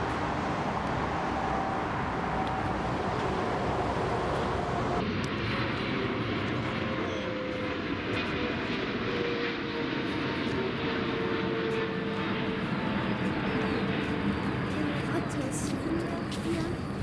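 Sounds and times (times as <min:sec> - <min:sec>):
jet engine rumble: 0:00.0 - 0:17.0
jet engine whine: 0:00.0 - 0:17.0.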